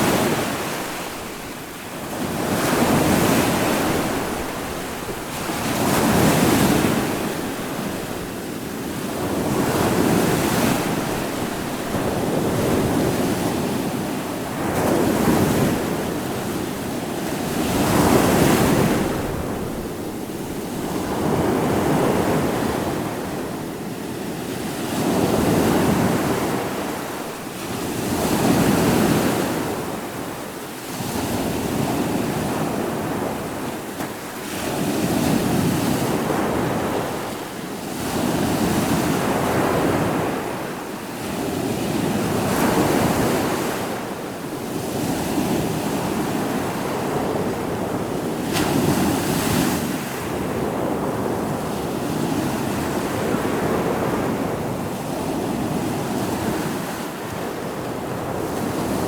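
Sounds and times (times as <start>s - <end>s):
ocean waves breaking on shore: 0.0s - 59.0s
wind: 0.0s - 59.0s.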